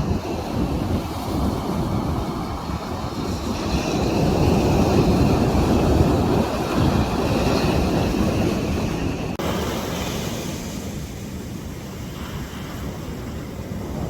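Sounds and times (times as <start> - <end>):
sea waves breaking on beach: 0.0 - 14.0.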